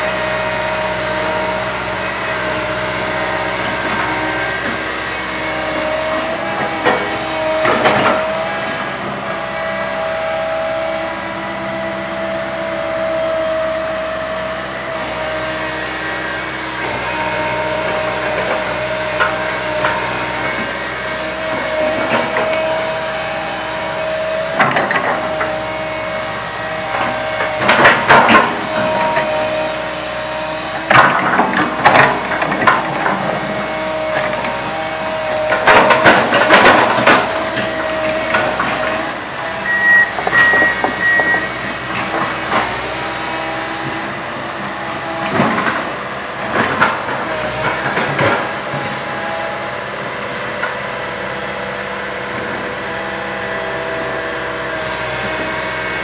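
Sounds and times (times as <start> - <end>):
excavator clanking and knocking: 0.0 - 56.0
excavator engine whine: 0.0 - 56.0.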